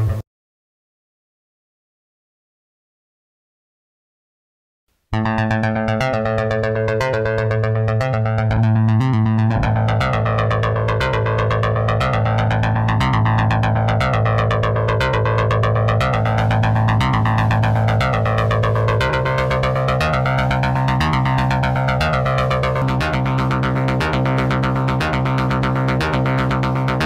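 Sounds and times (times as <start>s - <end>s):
pulsing synthesizer bass: 5.2s - 27.0s
sweeping synth effect: 5.2s - 27.0s.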